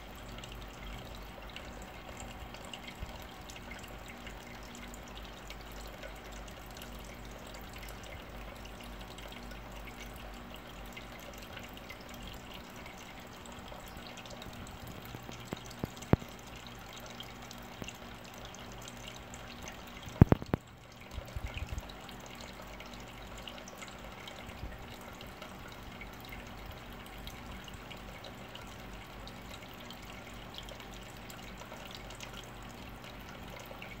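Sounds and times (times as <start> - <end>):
faint hum: 0.0 - 34.0
water trickling and dripping: 0.0 - 34.0.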